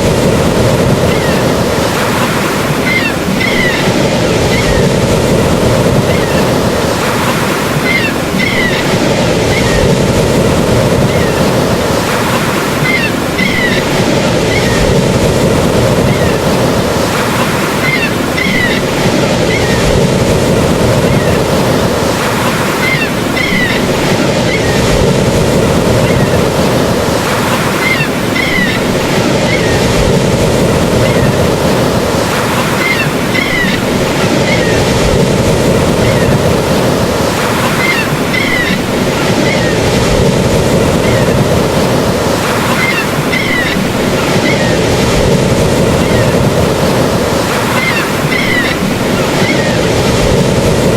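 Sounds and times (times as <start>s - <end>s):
ocean surf: 0.0s - 50.9s.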